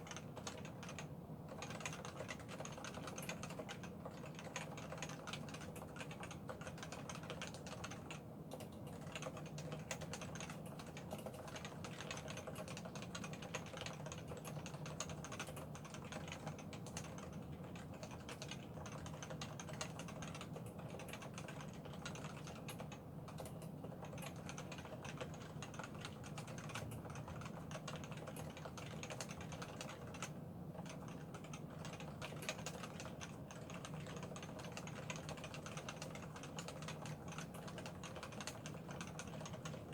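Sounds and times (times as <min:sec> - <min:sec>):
fast typing on a keyboard: 0:00.0 - 0:39.9.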